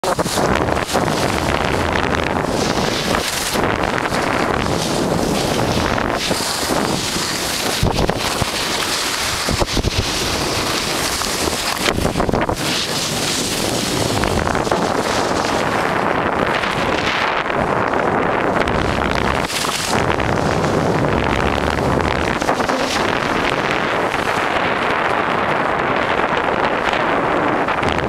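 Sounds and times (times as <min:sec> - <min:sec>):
snow rushing under snowboard: 0:00.0 - 0:28.0
wind buffeting microphone: 0:00.0 - 0:28.0.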